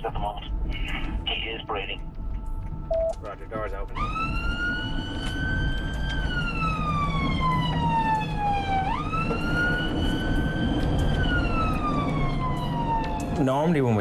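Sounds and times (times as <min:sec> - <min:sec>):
vehicle rumble: 0:00.0 - 0:14.0
ambulance siren wailing: 0:00.2 - 0:14.0.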